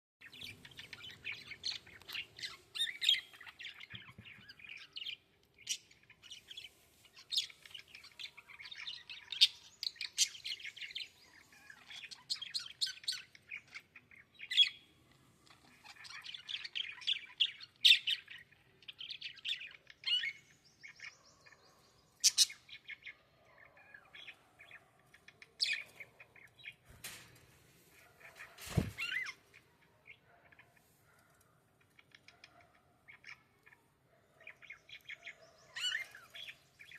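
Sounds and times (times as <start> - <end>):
small birds chirping: 0.2 - 36.9.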